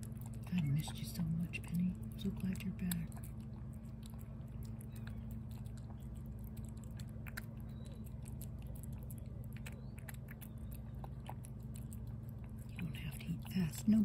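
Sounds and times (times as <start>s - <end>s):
cat chewing and licking: 0.0s - 14.0s
steady low hum: 0.0s - 14.0s.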